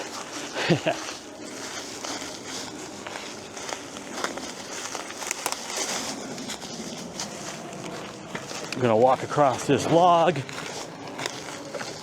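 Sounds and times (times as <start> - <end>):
dry leaves crackling underfoot: 0.0 - 12.0
twigs snapping: 0.0 - 12.0.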